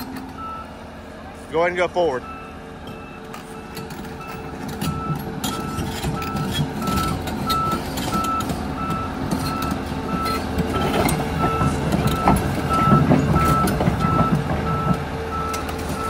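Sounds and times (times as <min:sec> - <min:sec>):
machine clanks and rattles: 0:00.0 - 0:00.6, 0:02.8 - 0:16.0
excavator travel alarm beeping: 0:00.0 - 0:00.9, 0:01.9 - 0:16.0
excavator engine running: 0:00.0 - 0:16.0.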